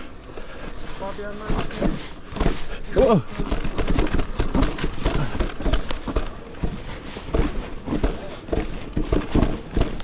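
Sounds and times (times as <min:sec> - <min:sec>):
bike rattling over rough ground: 0:00.0 - 0:10.0.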